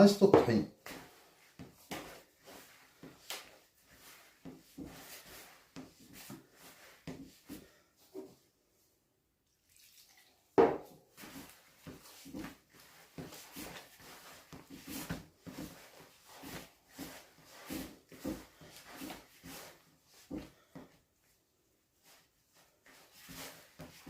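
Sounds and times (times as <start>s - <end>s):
hands kneading dough: 0.0s - 8.8s, 11.0s - 24.0s.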